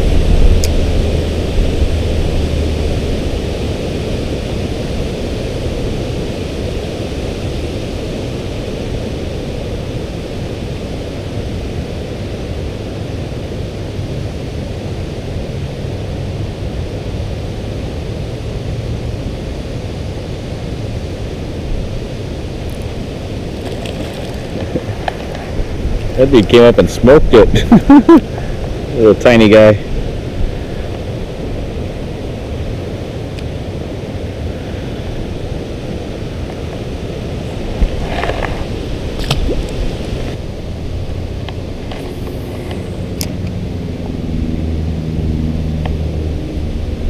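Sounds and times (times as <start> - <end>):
river rushing over rapids: 0.0 - 26.8, 28.1 - 47.0.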